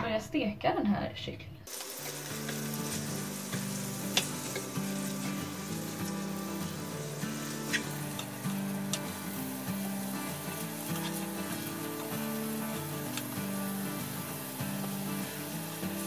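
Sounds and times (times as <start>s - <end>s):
background music: 1.7s - 16.0s
chicken sizzling in frying pan: 1.7s - 16.0s.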